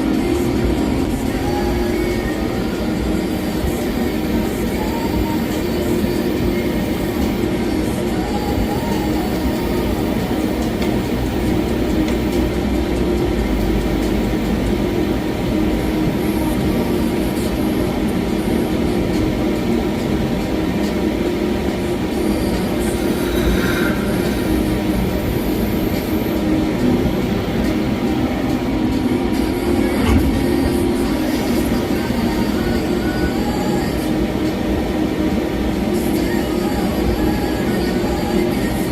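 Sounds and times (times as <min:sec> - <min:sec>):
lathe machine drone: 0:00.0 - 0:38.9.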